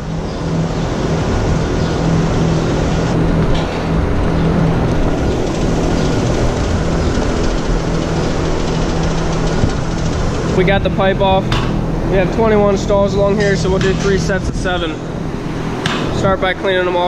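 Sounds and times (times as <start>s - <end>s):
machinery drone with low hum: 0.0s - 17.0s.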